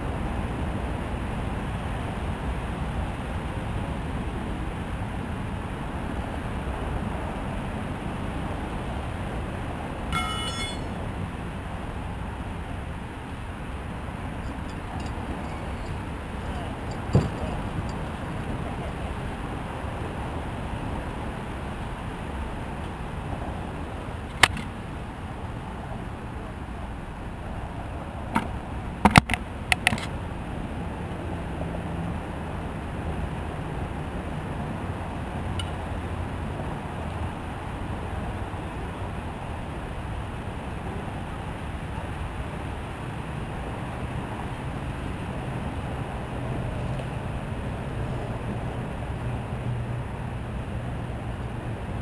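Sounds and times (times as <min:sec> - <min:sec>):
low outdoor rumble: 0:00.0 - 0:52.0.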